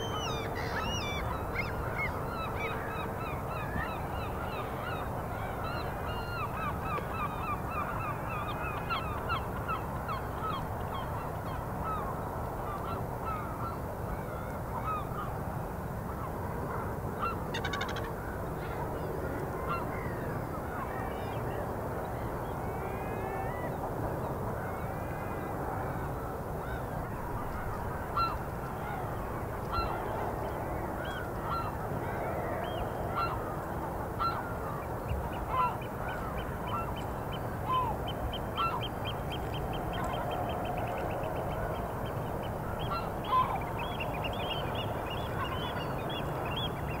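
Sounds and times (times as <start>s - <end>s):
low background noise: 0.0s - 47.0s.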